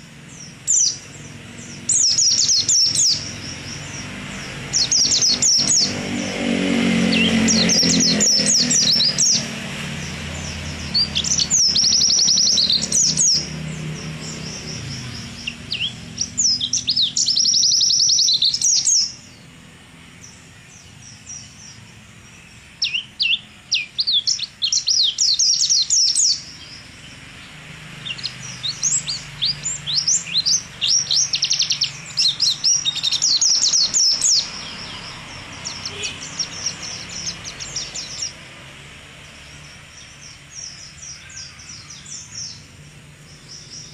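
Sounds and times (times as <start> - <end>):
bird singing high trills: 0.0 - 38.5, 39.1 - 43.9.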